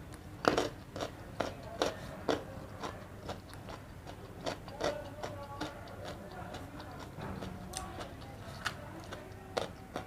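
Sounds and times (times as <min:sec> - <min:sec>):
wet chewing and mouth smacks: 0:00.1 - 0:10.0.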